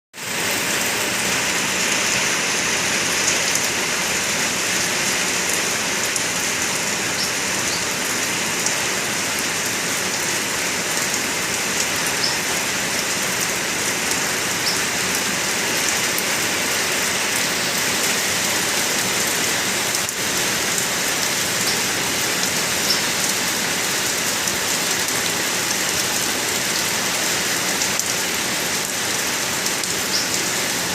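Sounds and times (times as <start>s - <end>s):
steady rain falling: 0.2s - 30.9s.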